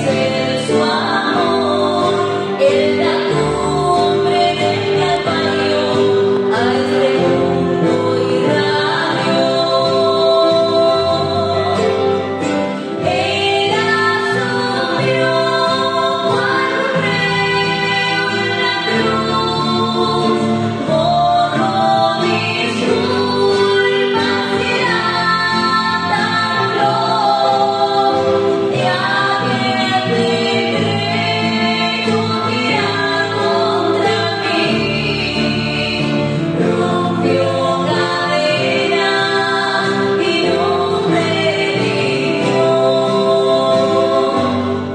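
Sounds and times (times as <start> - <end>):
acoustic guitar: 0.0 - 44.9
two women singing: 0.0 - 44.9.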